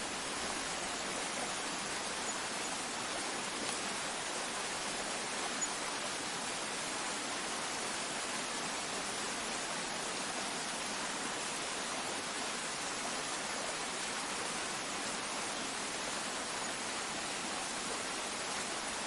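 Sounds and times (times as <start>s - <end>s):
water running in a canal: 0.0s - 19.0s.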